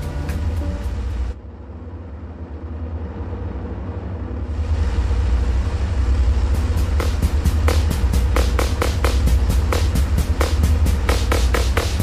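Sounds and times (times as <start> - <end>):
heavy machine engine rumble: 0.0 - 12.0.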